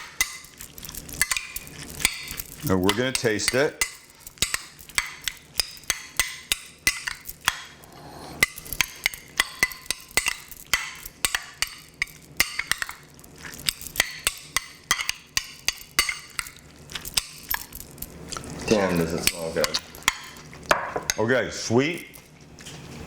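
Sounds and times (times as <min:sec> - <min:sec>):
spoon clinking against bowl: 0:00.0 - 0:07.8, 0:08.4 - 0:17.9, 0:18.6 - 0:21.2.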